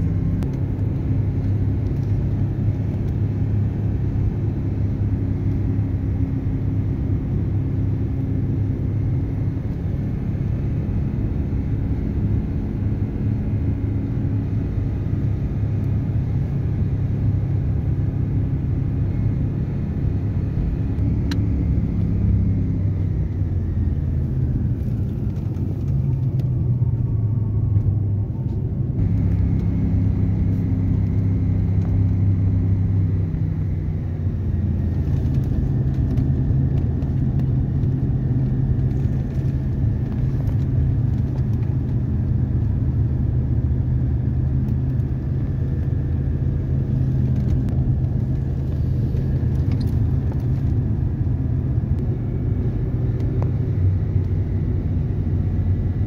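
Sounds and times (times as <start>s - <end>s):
car road noise and engine rumble: 0.0s - 56.0s.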